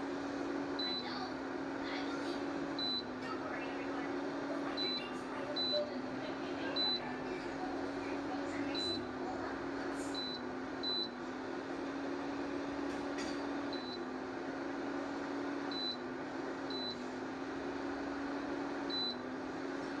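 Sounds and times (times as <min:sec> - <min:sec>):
cooktop humming: 0:00.0 - 0:20.0.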